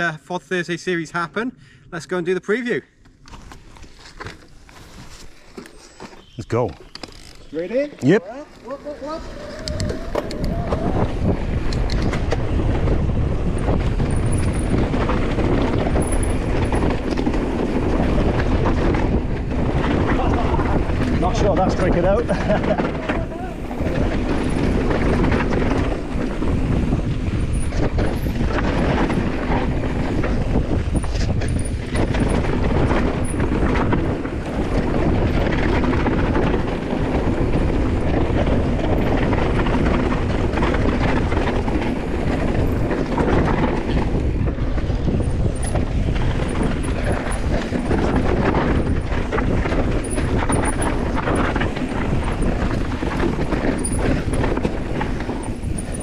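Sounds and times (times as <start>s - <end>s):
bike tyres rumbling over dirt: 3.2s - 56.0s
bike chain and frame rattling: 3.4s - 56.0s
wind buffeting microphone: 6.2s - 56.0s.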